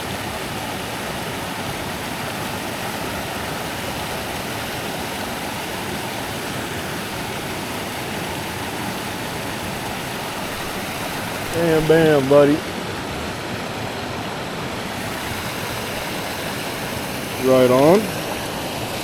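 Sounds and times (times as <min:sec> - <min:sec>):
stream water running over riffles: 0:00.0 - 0:19.0.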